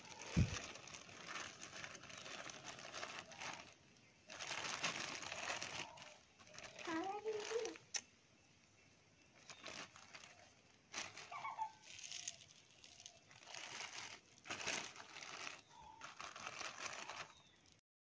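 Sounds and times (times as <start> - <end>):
plastic bag crinkling: 0.0 - 8.0, 9.4 - 17.8.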